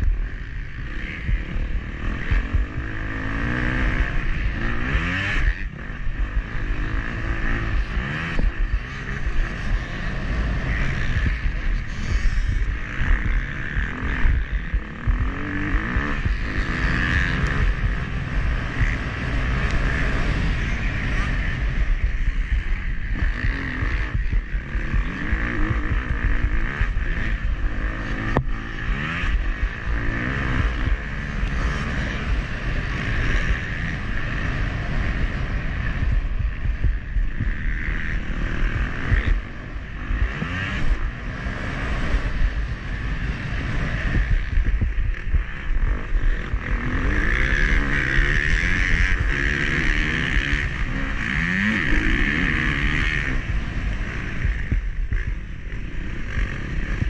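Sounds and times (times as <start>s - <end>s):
dirt bike engine revving: 0.0s - 57.0s
wind rumbling on microphone: 0.0s - 57.0s.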